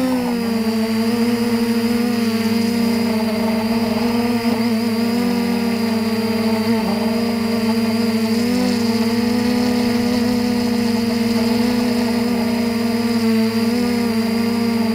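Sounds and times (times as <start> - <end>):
drone propellers whining: 0.0 - 14.9.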